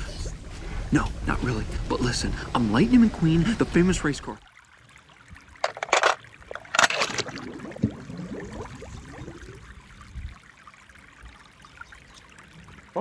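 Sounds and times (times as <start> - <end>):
water splashing: 0.0 - 11.3
water sloshing and gurgling: 0.0 - 13.0.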